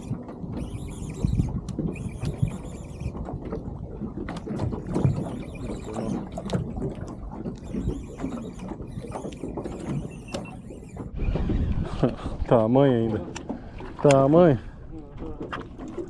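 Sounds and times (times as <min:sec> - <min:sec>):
water slapping against boat hull: 0:00.0 - 0:16.0
wind buffeting microphone: 0:00.0 - 0:16.0.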